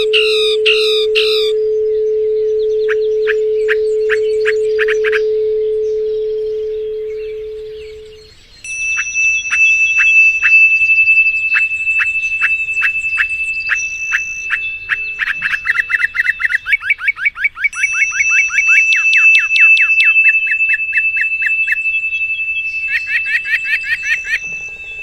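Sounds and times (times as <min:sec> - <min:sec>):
steady high tone: 0:00.0 - 0:16.7, 0:17.7 - 0:25.0
songbird singing: 0:00.0 - 0:25.0.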